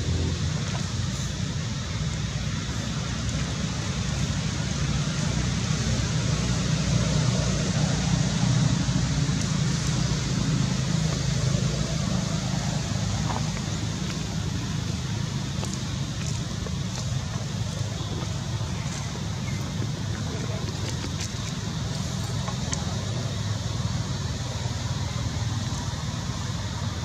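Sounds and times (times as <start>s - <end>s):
outdoor low rumble with hiss: 0.0s - 27.0s.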